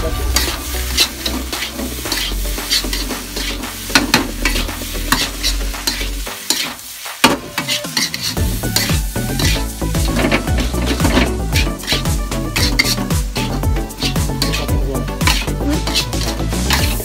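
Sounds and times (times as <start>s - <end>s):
metal spatula scraping a wok: 0.0s - 17.0s
rice sizzling: 0.0s - 17.0s.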